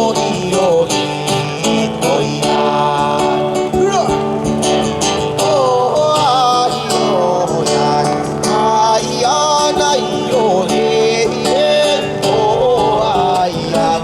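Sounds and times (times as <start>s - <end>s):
acoustic guitar strumming: 0.0s - 14.0s
person singing long notes: 0.0s - 14.0s.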